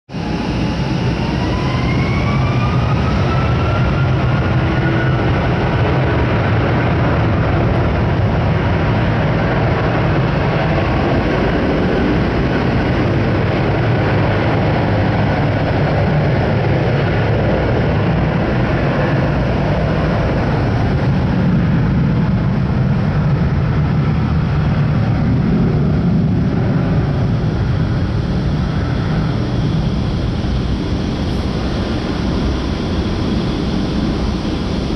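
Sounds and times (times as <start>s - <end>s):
jet engines roaring at takeoff: 0.1s - 34.9s.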